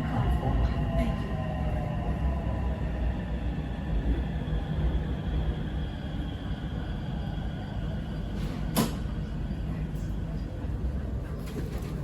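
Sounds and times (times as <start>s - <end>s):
train carriage low rumble: 0.0s - 12.0s.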